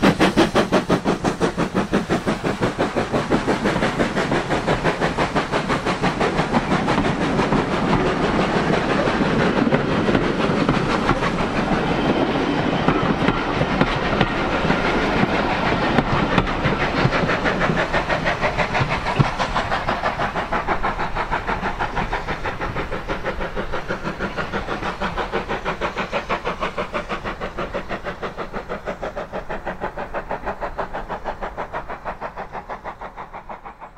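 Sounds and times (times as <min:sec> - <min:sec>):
rhythmic steam engine beats: 0:00.0 - 0:33.9
steam train passing: 0:00.0 - 0:33.9.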